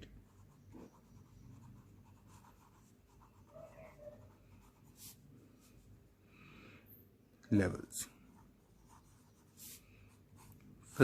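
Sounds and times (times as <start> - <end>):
faint scratching of writing: 0.1 - 6.0, 8.0 - 11.0.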